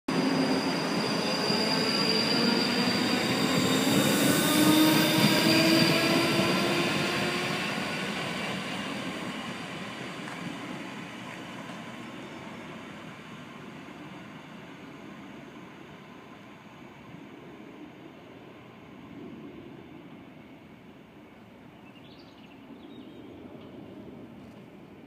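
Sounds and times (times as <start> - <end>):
electric train passing on rails: 0.1 - 25.0.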